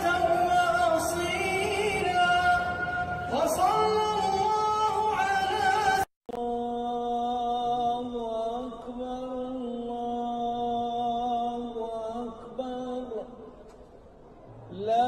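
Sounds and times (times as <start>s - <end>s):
low chanting voice: 0.0s - 13.4s.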